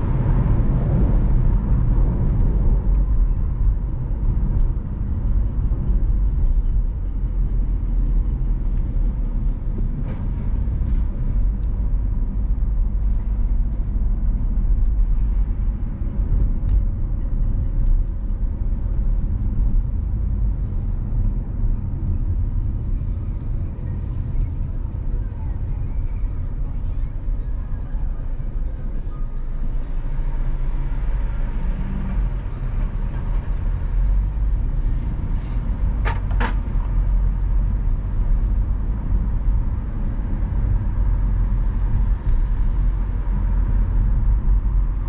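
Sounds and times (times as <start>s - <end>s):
car engine and tyre rumble: 0.0s - 45.0s.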